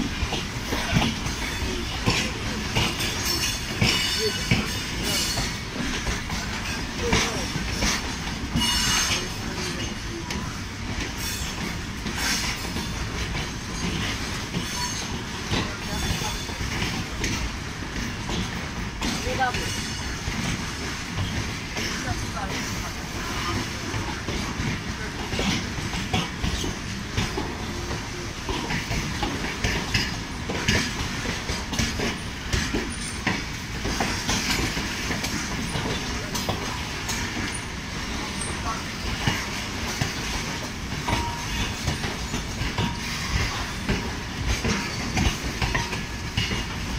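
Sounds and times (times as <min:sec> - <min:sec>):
clickety-clack over rail joints: 0:00.0 - 0:46.9
train wheels clattering: 0:00.0 - 0:46.9
train wheels rumbling on rails: 0:00.0 - 0:46.9.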